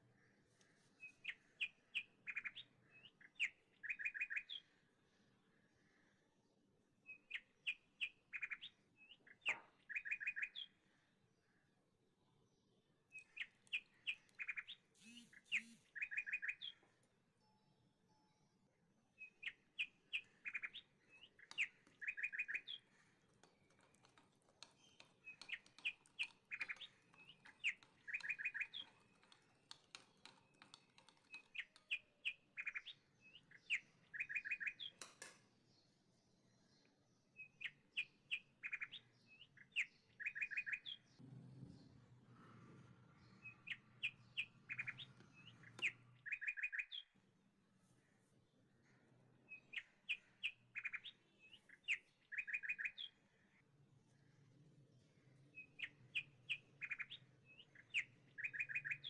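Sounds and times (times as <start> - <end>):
small birds chirping: 0.0 - 42.0, 43.0 - 59.0.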